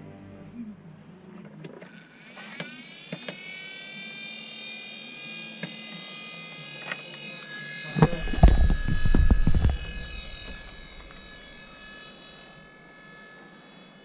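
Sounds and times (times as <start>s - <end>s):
blower fan whine: 0.0s - 14.0s.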